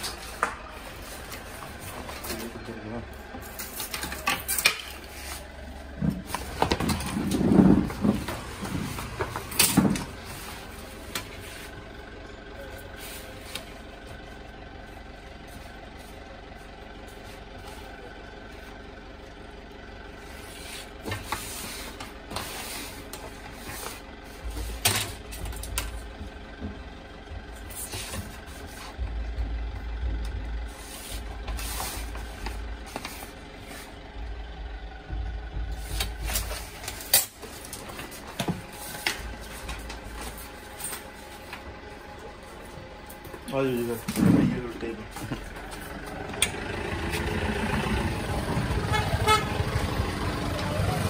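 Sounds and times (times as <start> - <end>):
steady mechanical hum: 0.0 - 51.0.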